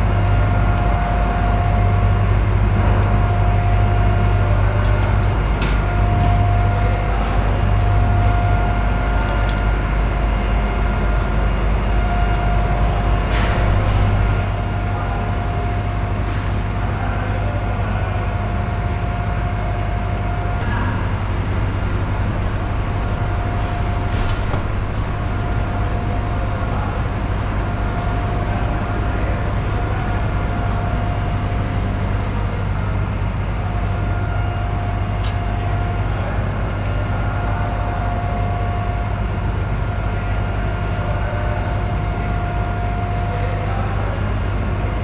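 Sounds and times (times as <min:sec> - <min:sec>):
deep machinery hum: 0:00.0 - 0:45.0
thin steady whine: 0:00.0 - 0:45.0.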